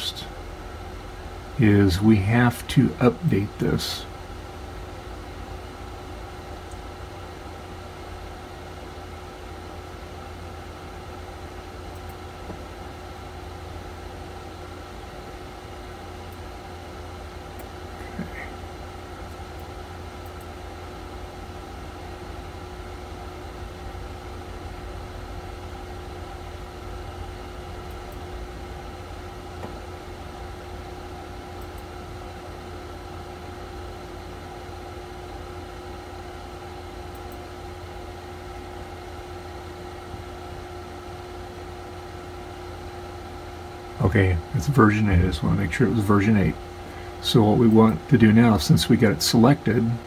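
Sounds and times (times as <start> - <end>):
machine hum with whine: 0.0 - 50.0.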